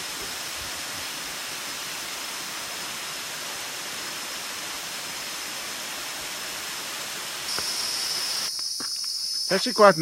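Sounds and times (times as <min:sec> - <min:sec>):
waterfall rushing: 0:00.0 - 0:08.5.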